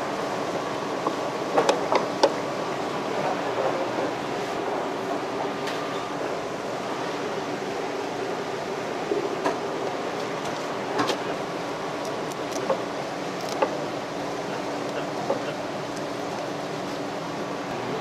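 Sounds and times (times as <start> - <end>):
fish market background noise: 0.0 - 18.0.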